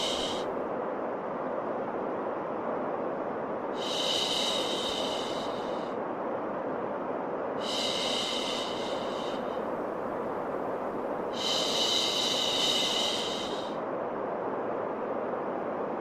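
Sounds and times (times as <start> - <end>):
low rushing white noise: 0.0 - 16.0.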